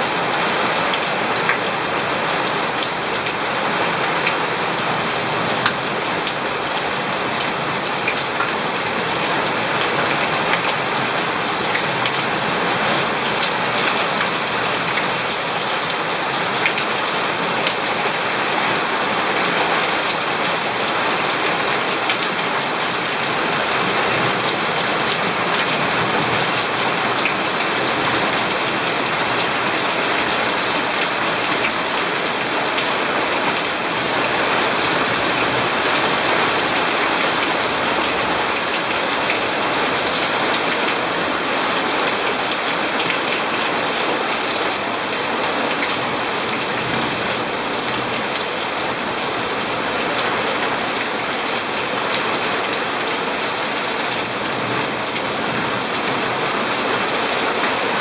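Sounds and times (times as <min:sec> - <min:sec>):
heavy rain on leaves and paving: 0:00.0 - 0:58.0.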